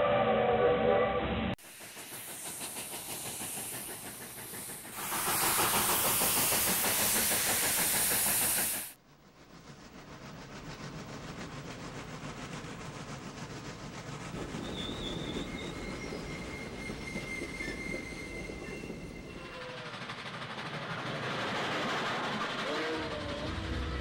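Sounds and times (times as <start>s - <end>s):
steam locomotive hissing steam: 1.5s - 24.0s
train clattering: 1.6s - 24.0s.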